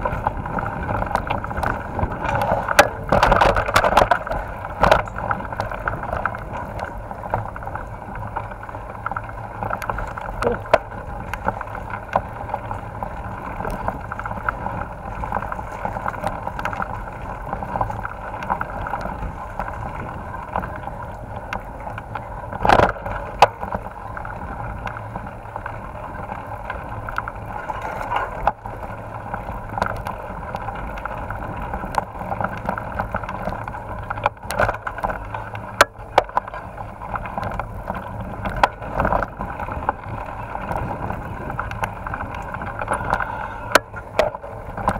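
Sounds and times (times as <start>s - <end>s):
bike tyres rumbling over dirt: 0.0s - 44.9s.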